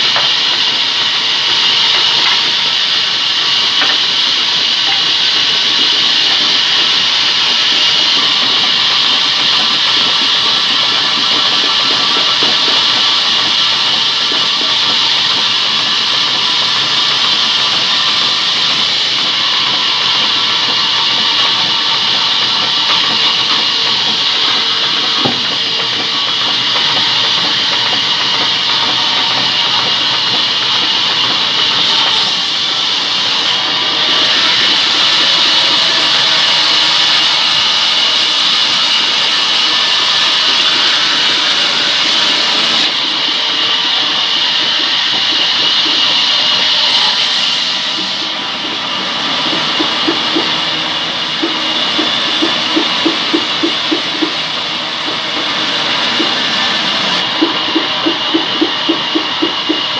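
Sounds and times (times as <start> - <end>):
band saw cutting wood: 0.0 - 59.9.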